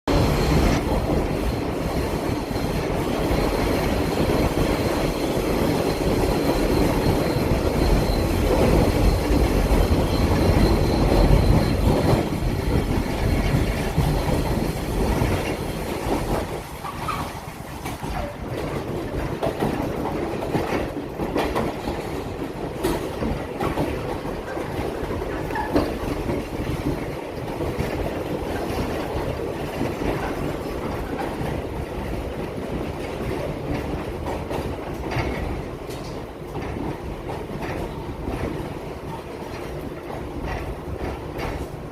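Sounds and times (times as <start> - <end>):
subway train rumbling: 0.0 - 41.9
wheels clicking over rail joints: 0.4 - 41.9.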